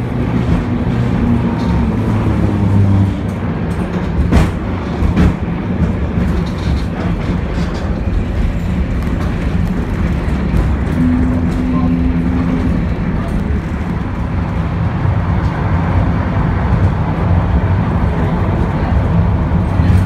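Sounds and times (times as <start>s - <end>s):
tram rumbling on rails: 0.0s - 20.0s
wheels clacking on track: 0.0s - 20.0s.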